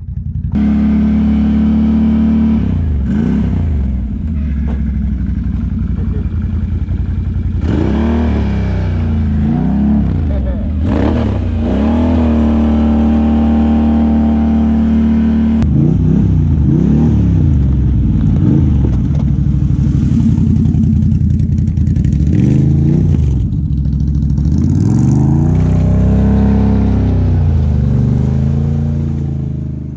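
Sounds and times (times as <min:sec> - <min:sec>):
quad engine revving: 0:00.5 - 0:29.9.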